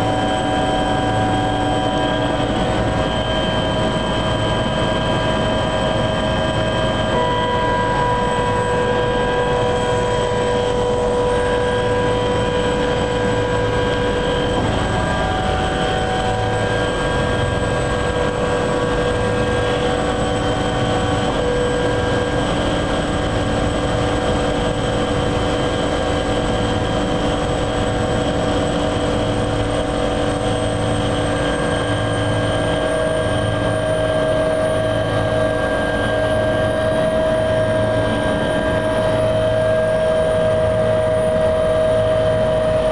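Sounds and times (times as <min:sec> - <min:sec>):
helicopter engine and rotor din: 0:00.0 - 0:42.9.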